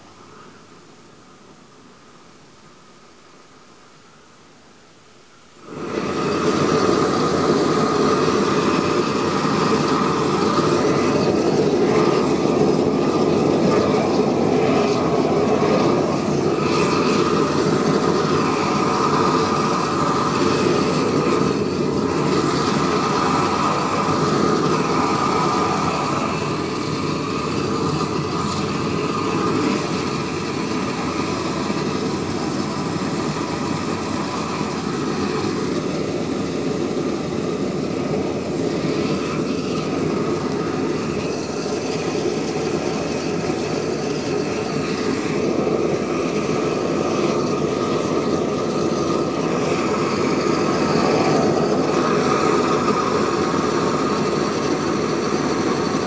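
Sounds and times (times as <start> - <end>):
propane torch flame roaring: 5.5 - 56.0.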